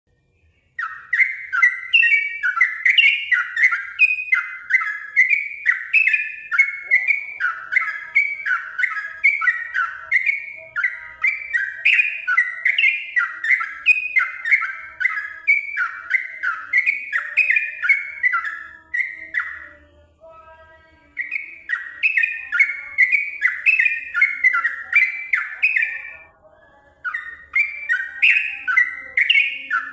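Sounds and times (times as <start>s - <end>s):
bulbul singing falling notes: 0.6s - 19.8s, 21.1s - 26.3s, 27.0s - 29.9s.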